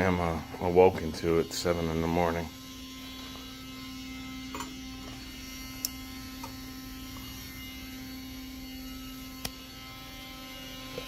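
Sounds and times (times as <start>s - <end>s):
furnace humming: 0.0s - 11.0s.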